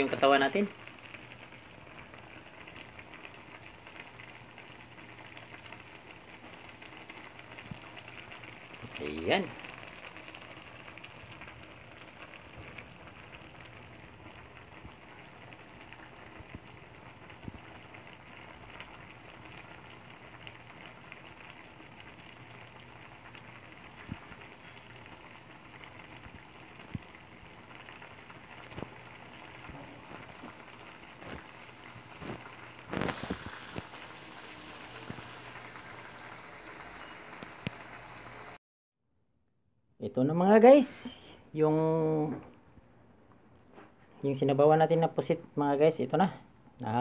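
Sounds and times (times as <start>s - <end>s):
soup bubbling in a wok: 0.0s - 38.6s.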